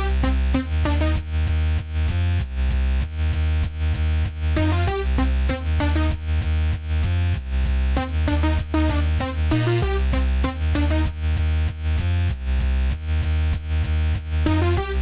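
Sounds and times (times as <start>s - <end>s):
electronic music: 0.0s - 15.0s.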